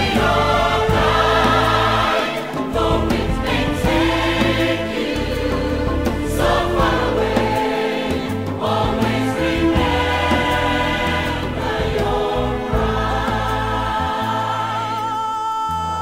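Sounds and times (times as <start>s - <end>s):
instrumental accompaniment: 0.0s - 15.2s
choir singing held chords: 0.0s - 16.0s.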